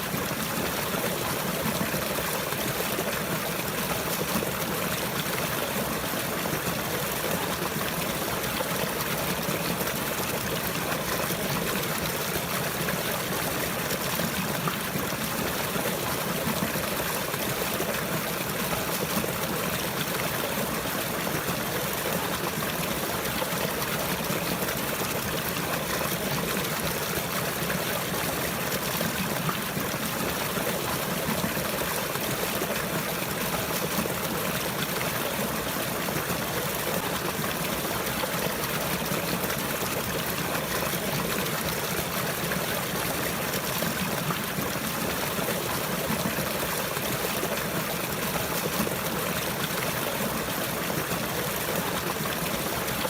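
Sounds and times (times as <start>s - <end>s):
water flowing and trickling: 0.0s - 53.0s.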